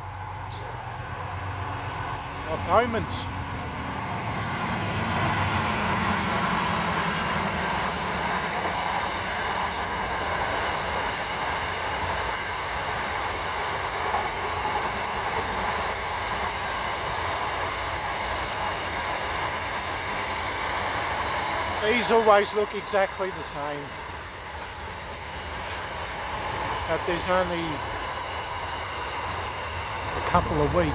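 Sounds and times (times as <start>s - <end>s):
train rumble: 0.0s - 30.9s.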